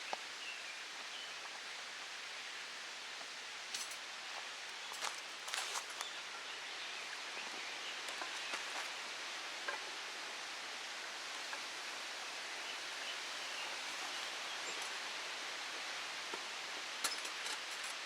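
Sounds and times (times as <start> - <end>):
campfire hissing and crackling: 0.0 - 18.0.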